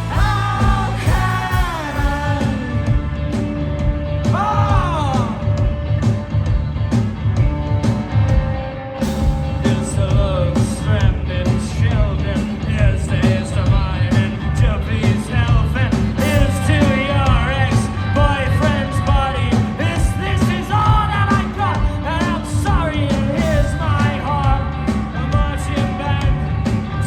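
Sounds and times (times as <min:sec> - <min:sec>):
person singing lead vocal: 0:00.0 - 0:03.6, 0:04.2 - 0:05.6, 0:09.5 - 0:27.0
rock band playing live: 0:00.0 - 0:27.0.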